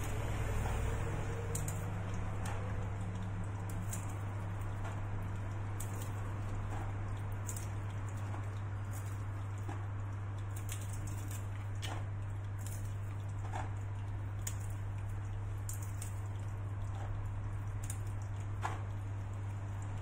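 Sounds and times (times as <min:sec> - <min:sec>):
steady low hum: 0:00.0 - 0:20.0
walnuts crackling: 0:00.0 - 0:20.0.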